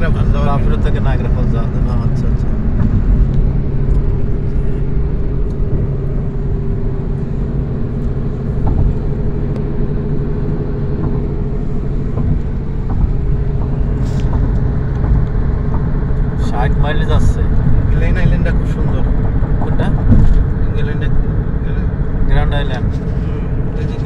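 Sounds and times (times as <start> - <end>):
car road noise rumble: 0.0 - 24.0
steady hum: 0.0 - 24.0.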